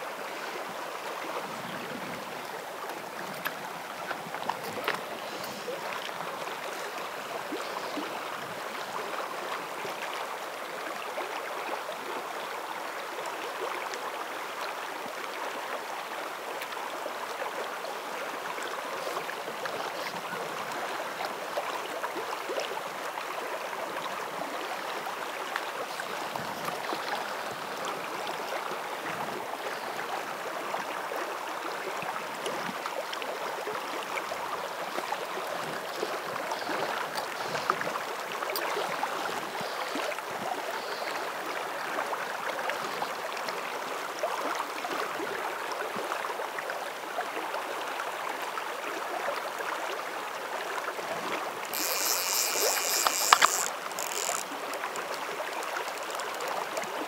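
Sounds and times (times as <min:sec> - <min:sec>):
creek water flowing: 0:00.0 - 0:57.0.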